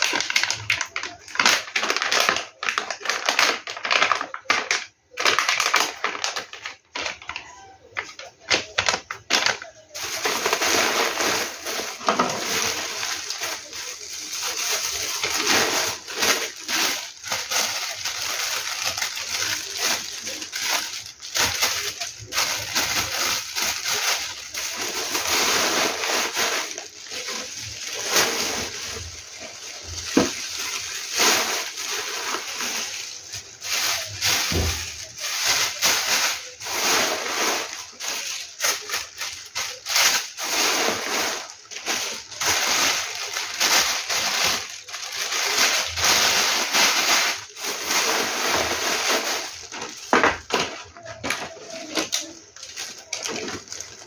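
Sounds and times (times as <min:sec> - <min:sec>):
plastic wrappers crinkling: 0:00.0 - 0:54.0.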